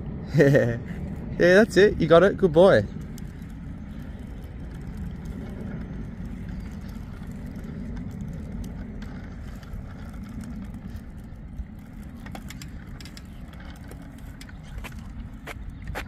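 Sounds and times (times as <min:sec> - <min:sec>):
bicycles rolling on concrete: 0:00.0 - 0:16.0.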